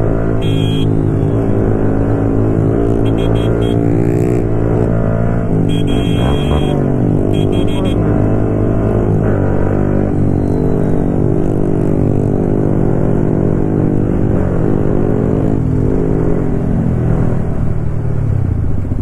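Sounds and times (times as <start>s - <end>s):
motorcycle engine cruising: 0.0s - 19.0s
road and wind noise: 0.0s - 19.0s.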